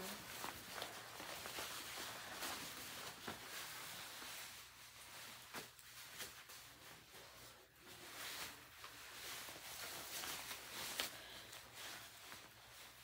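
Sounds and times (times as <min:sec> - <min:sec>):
fabric rustling: 0:00.0 - 0:13.0.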